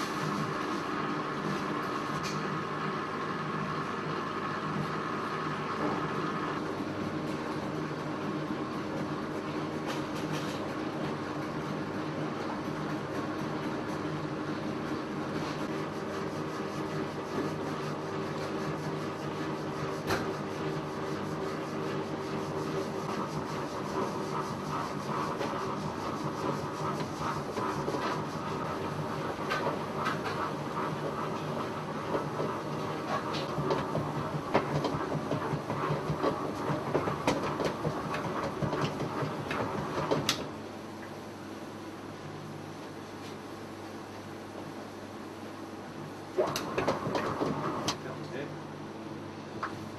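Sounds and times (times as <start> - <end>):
stand mixer humming: 0.0 - 9.8, 10.8 - 40.7, 46.3 - 48.1.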